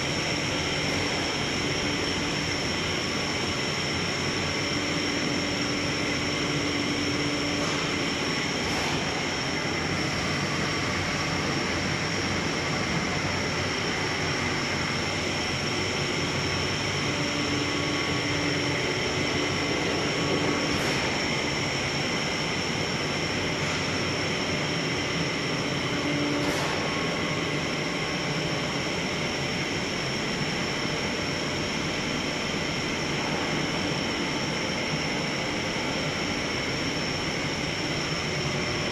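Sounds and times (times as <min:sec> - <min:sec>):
machine high whine: 0:00.0 - 0:38.9.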